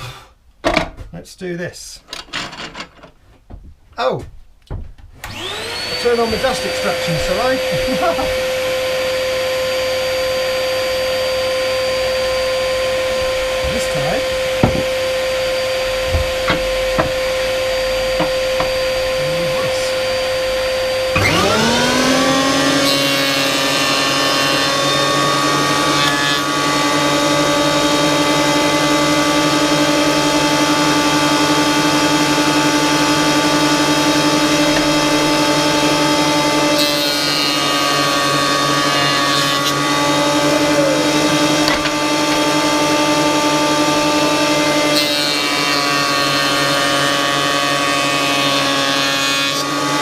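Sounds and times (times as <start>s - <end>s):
dust extractor running: 5.2s - 50.0s
planer thicknesser whine: 5.2s - 50.0s.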